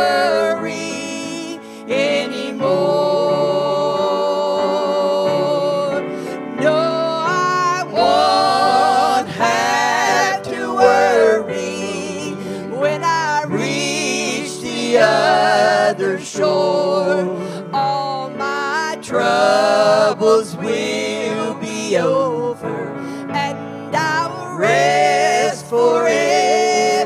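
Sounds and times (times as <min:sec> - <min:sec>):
grand piano: 0:00.0 - 0:27.0
women singing a hymn in harmony: 0:00.0 - 0:27.0.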